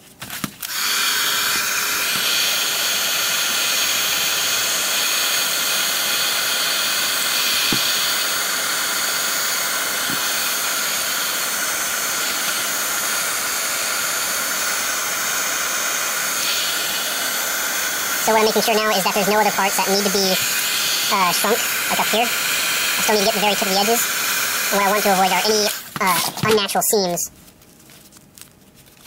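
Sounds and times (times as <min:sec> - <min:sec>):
heat gun blowing: 0:00.6 - 0:27.1.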